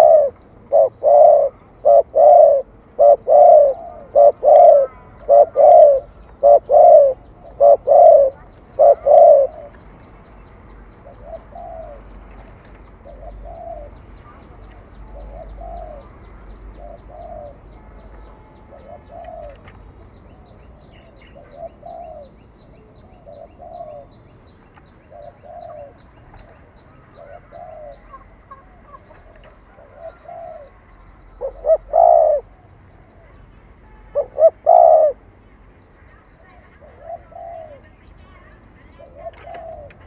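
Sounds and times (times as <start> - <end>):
dove cooing: 0.0 - 9.8, 11.0 - 12.1, 12.8 - 17.7, 18.6 - 24.3, 24.9 - 33.4, 34.1 - 35.4, 36.4 - 38.0, 38.8 - 40.0.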